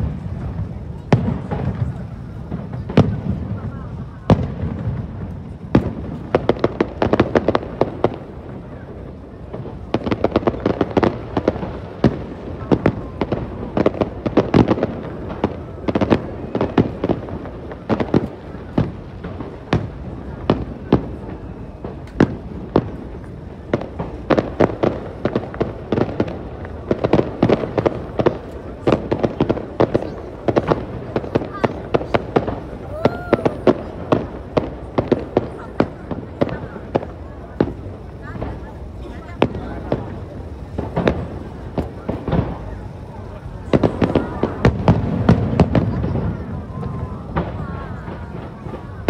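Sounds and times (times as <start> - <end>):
fireworks cracking and popping: 0.0 - 49.0.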